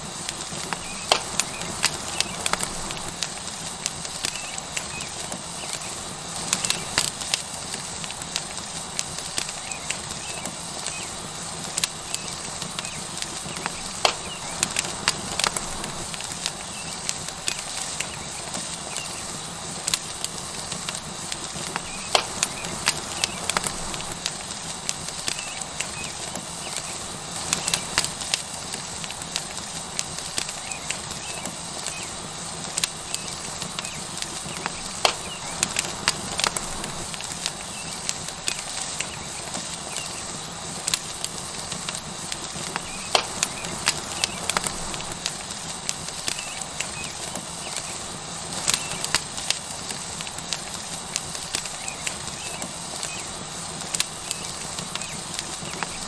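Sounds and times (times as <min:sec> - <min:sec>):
steak sizzling on hot rock: 0:00.0 - 0:56.0
wood fire crackling and popping: 0:00.0 - 0:56.0.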